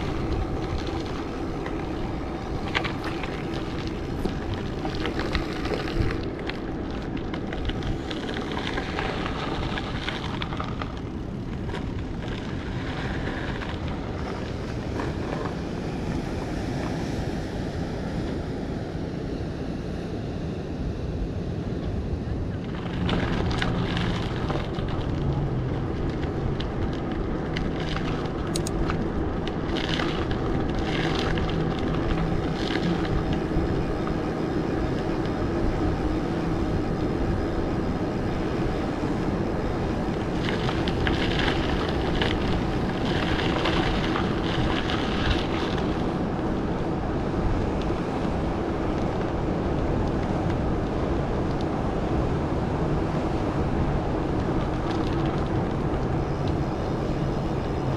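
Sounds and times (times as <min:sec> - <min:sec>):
bike tyre and road noise: 0:00.0 - 0:57.9
wind on microphone: 0:00.0 - 0:57.9.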